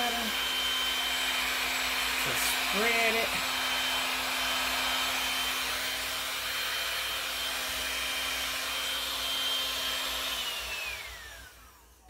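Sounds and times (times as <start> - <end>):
heat gun fan whining and humming: 0.0 - 12.0.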